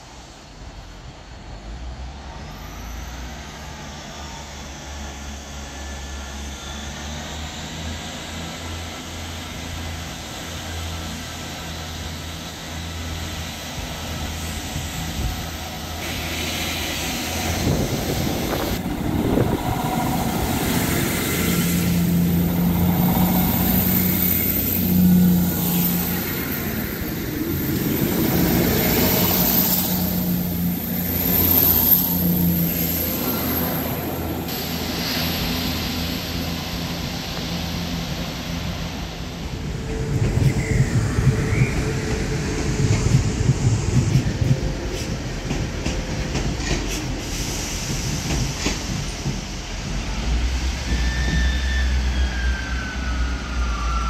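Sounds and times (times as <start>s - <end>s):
train running past: 0.0s - 54.0s.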